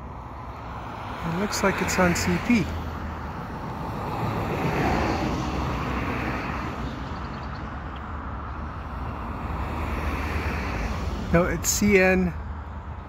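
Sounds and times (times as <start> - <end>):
road traffic noise: 0.0 - 13.0
vehicle passing: 0.0 - 13.0.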